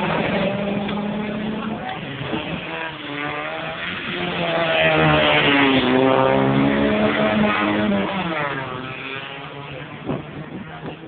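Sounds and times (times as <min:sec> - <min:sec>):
rally car engines revving: 0:00.0 - 0:11.0.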